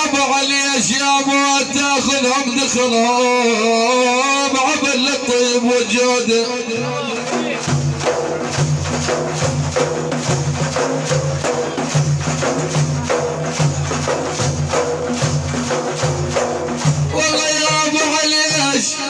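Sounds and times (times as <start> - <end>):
quick hand percussion beat: 0.0 - 19.0.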